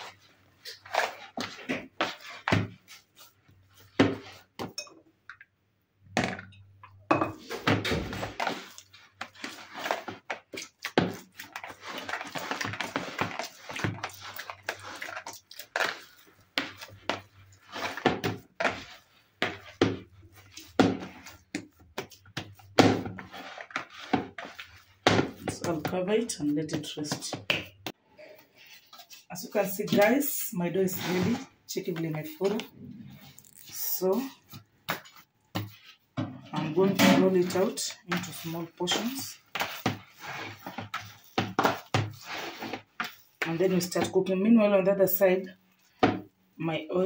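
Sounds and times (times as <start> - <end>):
hands kneading dough: 0.0 - 4.8, 7.4 - 47.0.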